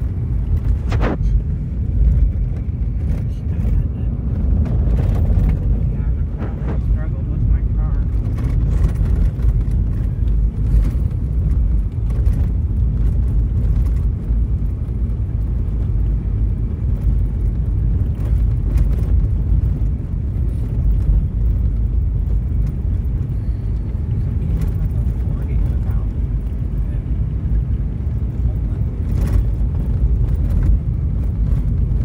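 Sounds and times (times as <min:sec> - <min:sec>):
low rumble of engine and tyres: 0:00.0 - 0:32.0.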